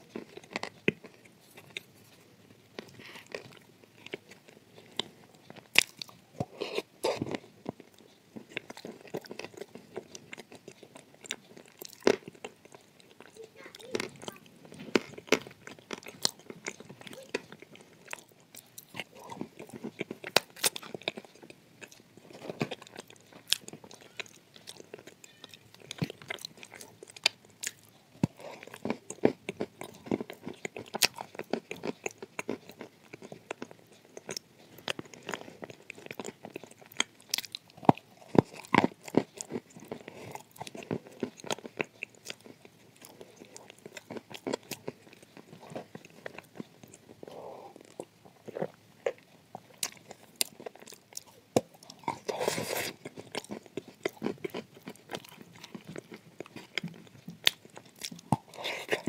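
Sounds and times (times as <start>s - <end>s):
chewing crunchy clay: 0.0s - 59.0s.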